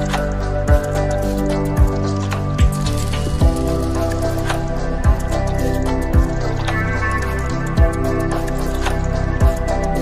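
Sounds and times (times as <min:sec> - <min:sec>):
synthesizer chords: 0:00.0 - 0:10.0.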